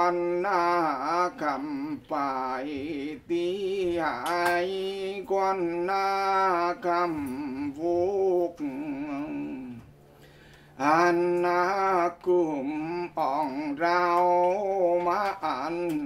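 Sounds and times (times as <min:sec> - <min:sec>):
man chanting: 0:00.0 - 0:09.9, 0:10.8 - 0:16.0.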